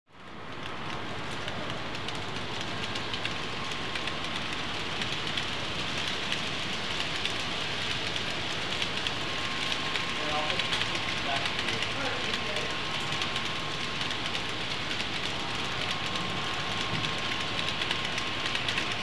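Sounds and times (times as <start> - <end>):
model train wheels on rails: 0.1 - 19.0.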